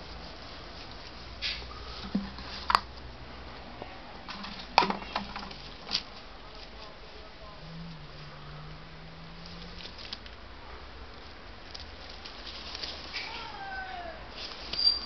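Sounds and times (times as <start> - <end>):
dry grass rustling: 0.0 - 15.0.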